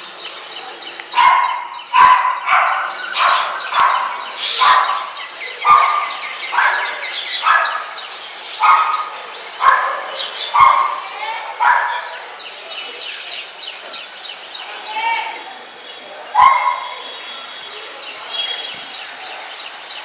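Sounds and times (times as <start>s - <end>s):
animal calling: 0.6s - 13.8s, 14.6s - 19.5s.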